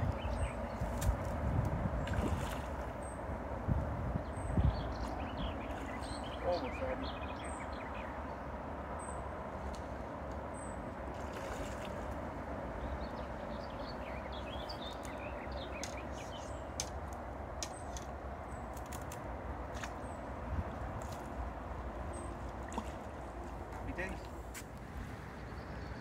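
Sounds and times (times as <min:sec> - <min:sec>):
birds chirping: 0:00.0 - 0:01.0, 0:04.1 - 0:19.0, 0:19.7 - 0:26.0
river water flowing: 0:00.1 - 0:03.7, 0:05.0 - 0:18.5, 0:19.2 - 0:26.0.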